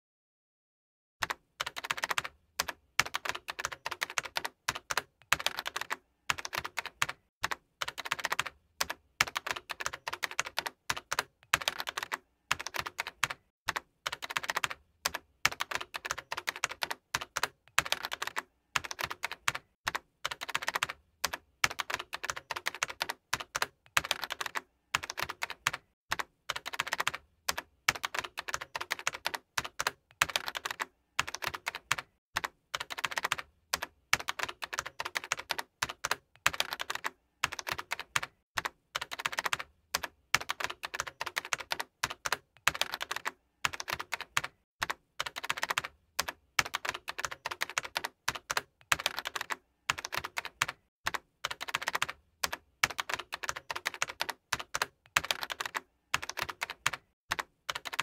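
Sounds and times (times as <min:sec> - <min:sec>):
computer keyboard typing: 0:01.2 - 0:58.0.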